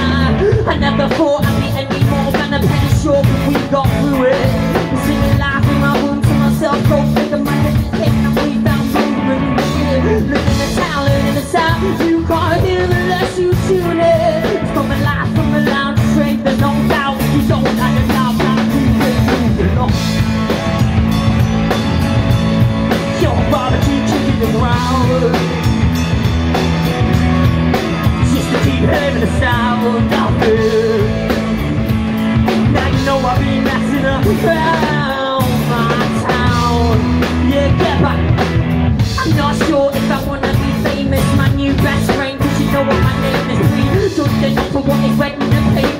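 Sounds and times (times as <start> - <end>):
man singing: 0.0 - 21.0, 22.2 - 26.3, 27.7 - 45.9
bass guitar: 0.0 - 45.9
drum kit: 0.0 - 45.9
electric guitar: 0.0 - 45.9.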